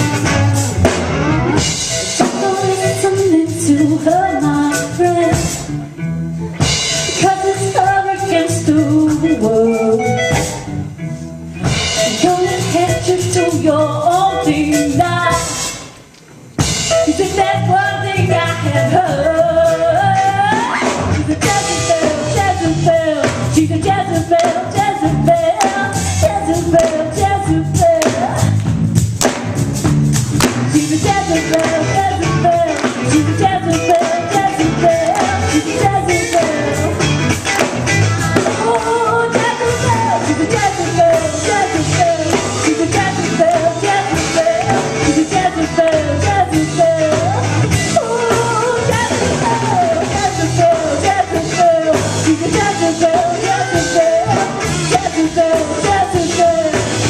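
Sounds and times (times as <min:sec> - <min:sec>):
live band playing: 0:00.0 - 0:57.0
woman singing lead: 0:02.1 - 0:06.0, 0:07.0 - 0:10.8, 0:11.9 - 0:16.0, 0:16.8 - 0:28.7, 0:30.7 - 0:37.7, 0:38.3 - 0:57.0.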